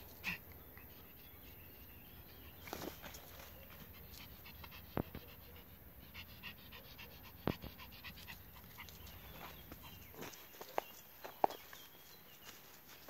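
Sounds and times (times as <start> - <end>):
small dog panting: 0.0 - 11.0.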